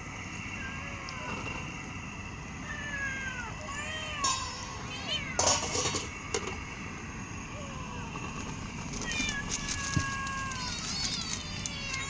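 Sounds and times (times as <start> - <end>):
cats meowing: 0.4 - 1.8, 2.6 - 6.4, 7.4 - 12.0.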